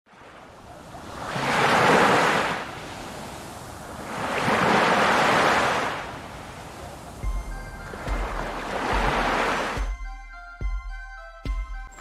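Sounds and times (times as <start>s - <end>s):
sea waves washing in: 0.1s - 9.9s.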